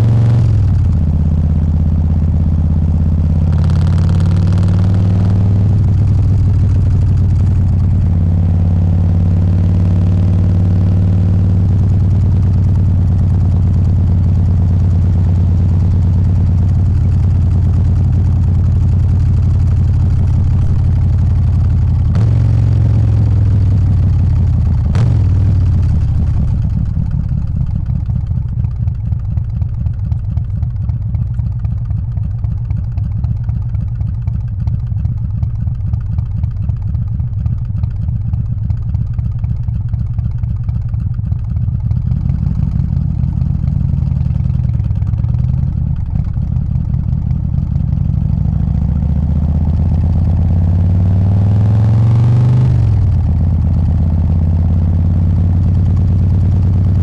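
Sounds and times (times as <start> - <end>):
motorcycle engine rumbling and revving: 0.0 - 57.0.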